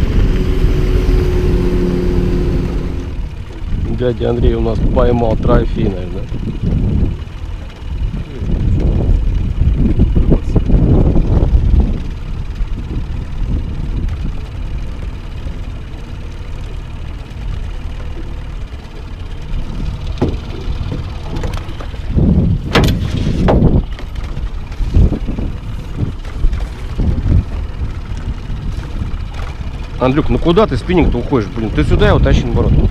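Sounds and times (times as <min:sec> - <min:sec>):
outboard motor running: 0:00.0 - 0:32.9
wind buffeting microphone: 0:00.0 - 0:32.9.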